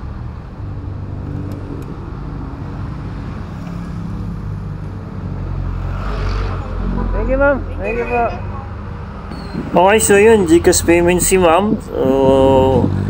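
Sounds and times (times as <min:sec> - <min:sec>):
passing vehicle rumble: 0:00.0 - 0:13.0
street traffic: 0:00.0 - 0:13.0.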